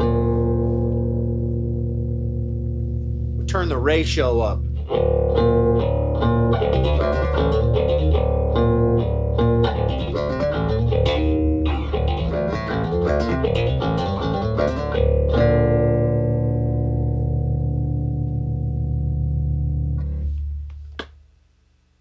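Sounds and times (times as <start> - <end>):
plucked bass guitar notes: 0.0 - 21.1.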